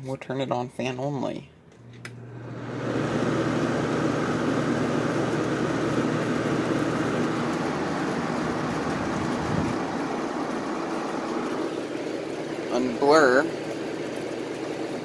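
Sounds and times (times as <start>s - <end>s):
air conditioner fan whooshing hum: 0.0s - 15.0s.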